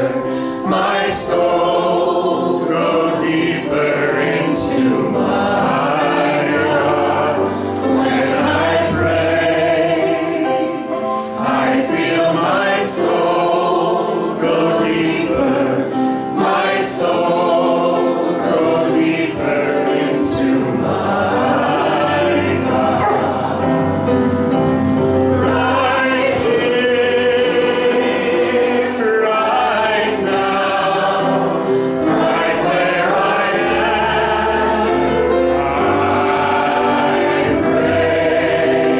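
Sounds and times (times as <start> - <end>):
choir singing gospel song: 0.0 - 38.9.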